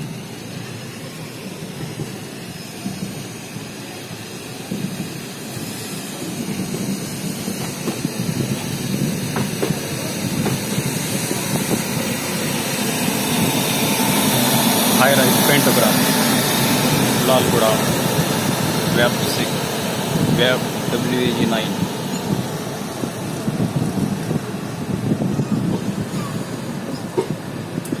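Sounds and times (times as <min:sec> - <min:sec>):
train approaching: 0:00.0 - 0:28.0.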